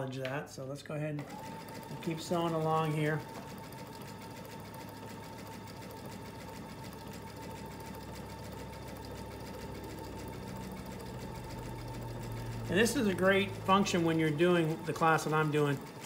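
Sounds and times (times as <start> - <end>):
sewing machine stitching: 1.1 - 16.0.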